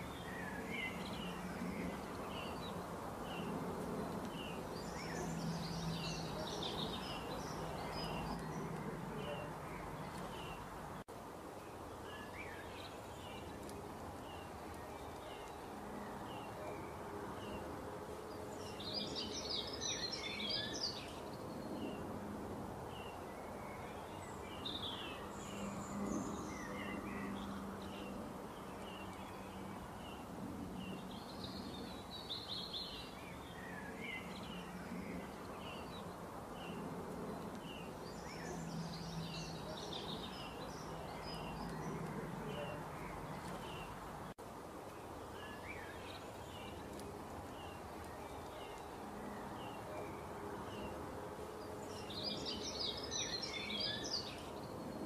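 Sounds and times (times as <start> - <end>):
birds chirping: 0.0 - 22.2, 22.8 - 55.0.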